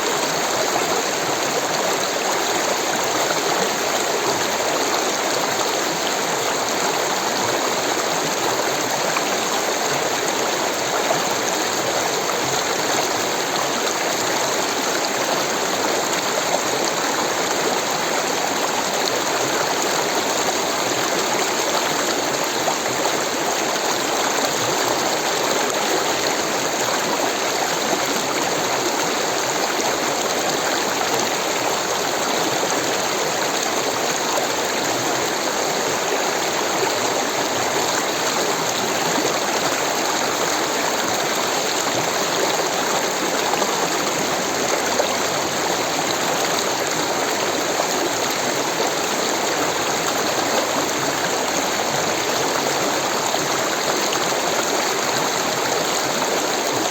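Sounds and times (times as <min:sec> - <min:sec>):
water rushing: 0:00.0 - 0:56.9.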